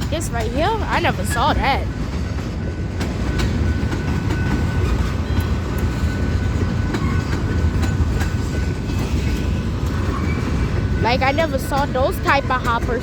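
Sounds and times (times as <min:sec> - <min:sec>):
train wheels rumbling on rail: 0:00.0 - 0:13.0
wheels clicking over rail joints: 0:00.0 - 0:13.0.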